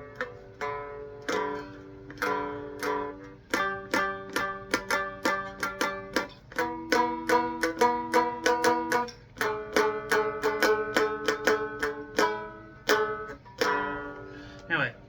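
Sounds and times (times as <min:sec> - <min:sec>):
twangy plucked guitar notes: 0:00.0 - 0:15.0.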